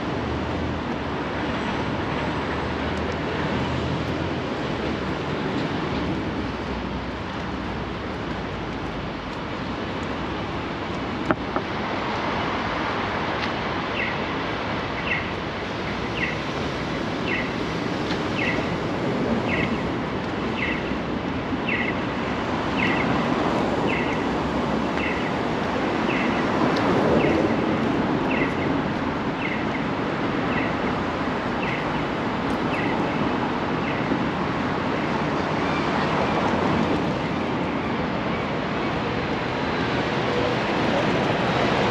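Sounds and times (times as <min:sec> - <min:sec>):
city street traffic: 0:00.0 - 0:41.9.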